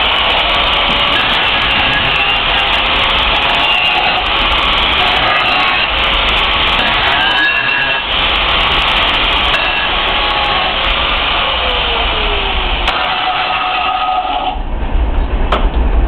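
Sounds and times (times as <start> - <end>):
rough machine noise: 0.0 - 14.8.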